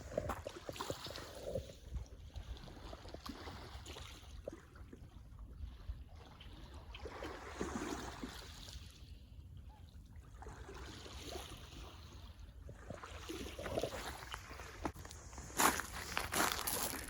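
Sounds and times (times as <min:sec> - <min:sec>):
small waves lapping at shore: 0:00.0 - 0:17.0.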